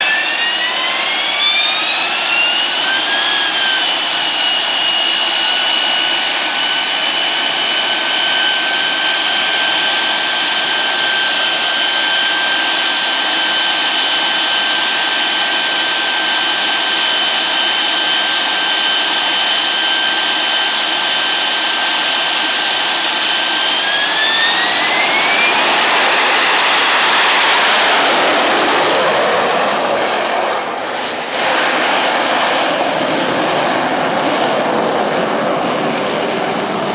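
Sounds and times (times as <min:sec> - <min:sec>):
jet engine high whine: 0:00.0 - 0:36.9
rushing jet blast: 0:00.0 - 0:36.9.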